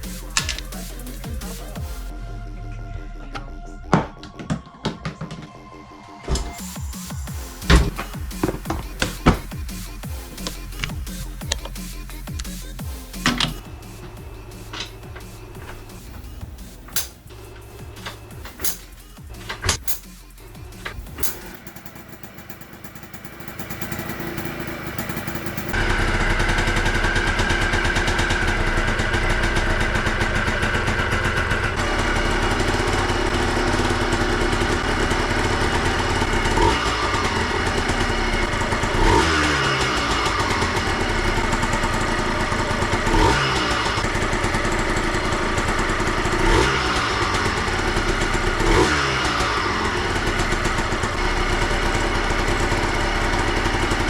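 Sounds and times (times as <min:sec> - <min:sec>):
two-stroke engine starting and revving: 0:00.0 - 0:04.0, 0:06.2 - 0:54.0.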